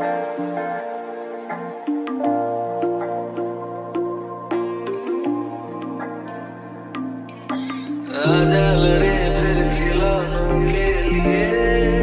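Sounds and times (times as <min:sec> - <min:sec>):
plucked string notes: 0:00.0 - 0:12.0
slow tender music: 0:00.0 - 0:12.0.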